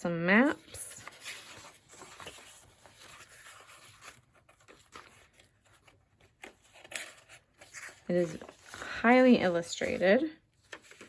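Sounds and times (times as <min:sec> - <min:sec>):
paper pages rustling: 0:00.4 - 0:11.0.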